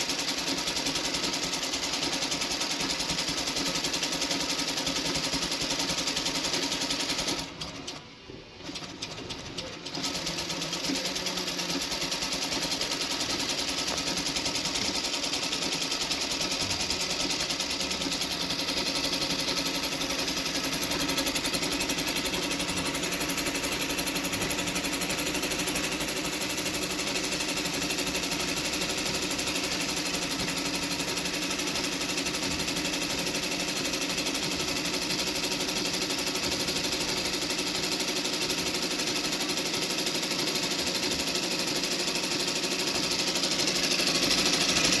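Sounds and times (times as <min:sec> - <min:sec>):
sewing machine running: 0:00.0 - 0:45.0.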